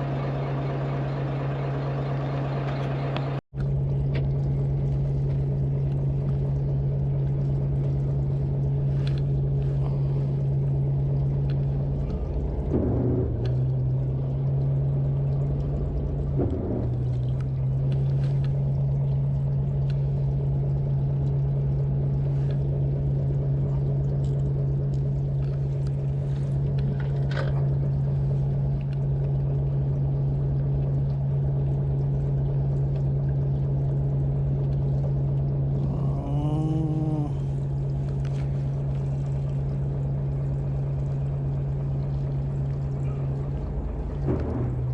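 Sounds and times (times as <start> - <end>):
boat engine humming: 0.0 - 44.9.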